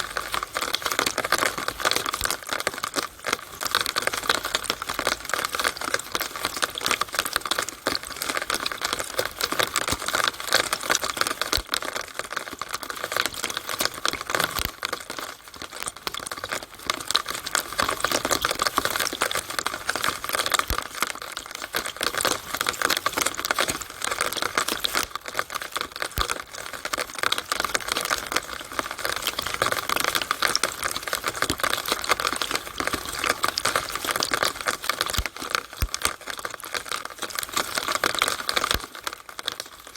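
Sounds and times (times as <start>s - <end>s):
rainwater splashing from downspout: 0.0s - 39.9s.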